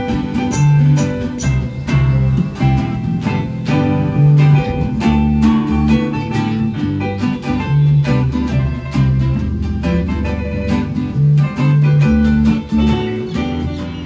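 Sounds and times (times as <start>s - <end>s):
acoustic guitars strumming: 0.0s - 14.0s
bass guitar low notes: 0.0s - 14.0s.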